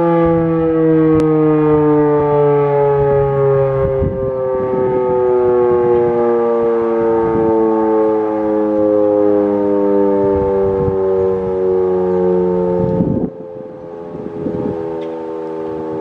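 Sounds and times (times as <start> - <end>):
wailing warning siren: 0.0 - 16.0.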